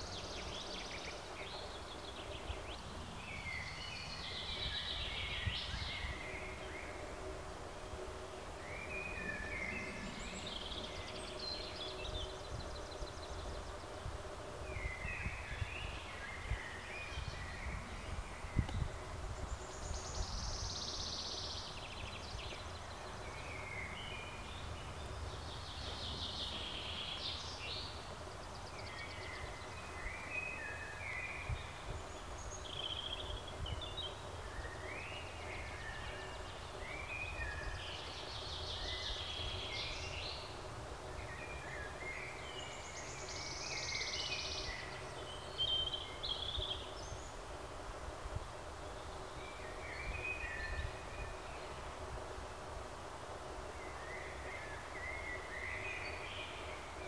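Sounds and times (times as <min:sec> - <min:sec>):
songbirds singing and trilling: 0:00.0 - 0:57.0.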